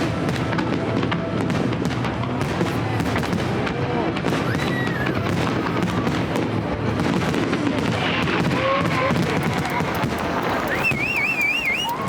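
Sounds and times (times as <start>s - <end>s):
faint crowd voices: 0.0s - 12.0s
fireworks crackling: 0.0s - 12.0s.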